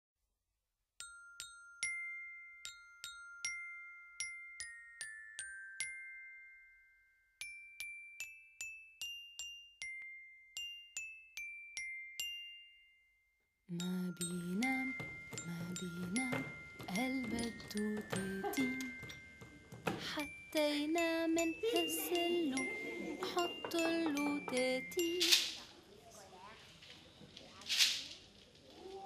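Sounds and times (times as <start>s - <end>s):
bell-like melody: 1.0s - 25.8s.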